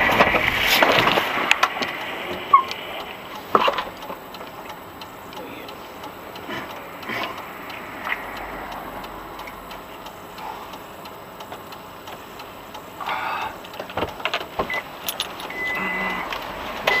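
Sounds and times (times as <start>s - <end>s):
car road and engine noise: 0.0s - 17.0s
faint regular ticking: 1.3s - 17.0s.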